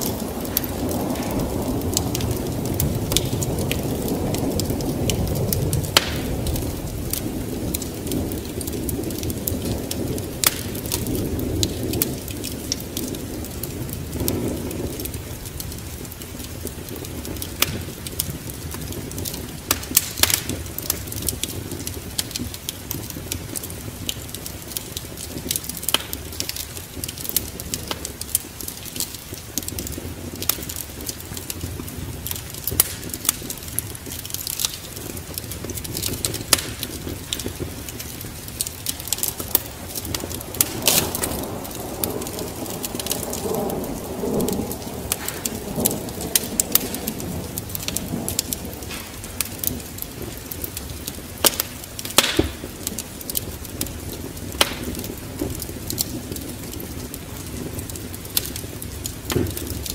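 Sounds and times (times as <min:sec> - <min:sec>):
rain hissing: 0:00.0 - 0:59.9
wood fire crackling and popping: 0:00.0 - 0:59.9.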